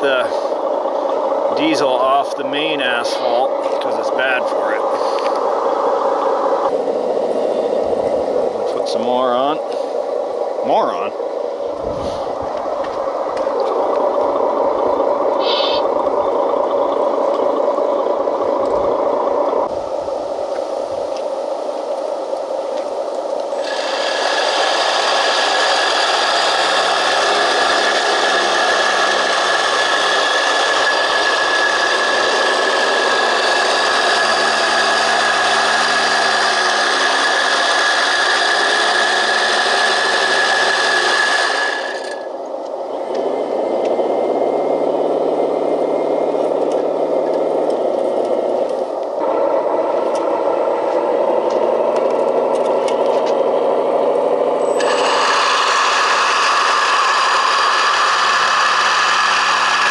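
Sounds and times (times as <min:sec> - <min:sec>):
vibrating drum buzzing rattle: 0:00.0 - 0:20.2, 0:23.0 - 0:59.9
high whine: 0:00.0 - 0:59.9.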